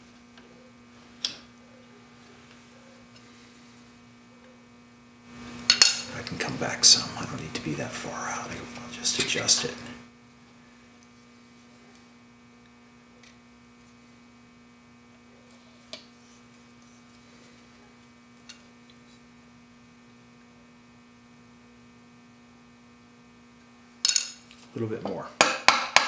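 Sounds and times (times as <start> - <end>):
low electrical mains hum: 0.0 - 26.0.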